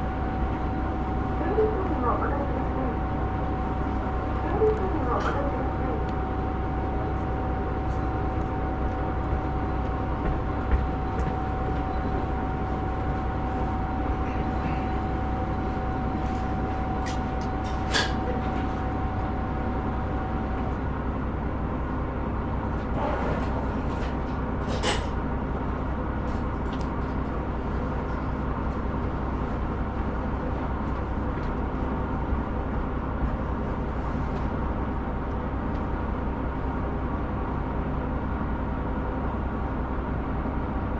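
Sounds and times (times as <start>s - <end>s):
railcar engine hum: 0.0s - 40.9s.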